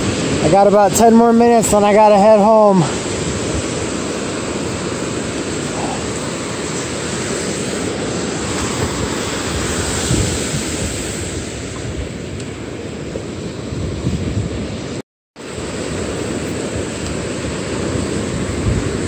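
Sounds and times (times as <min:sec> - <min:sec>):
surf breaking on beach: 0:00.0 - 0:19.0
wind rumble on microphone: 0:00.0 - 0:19.0.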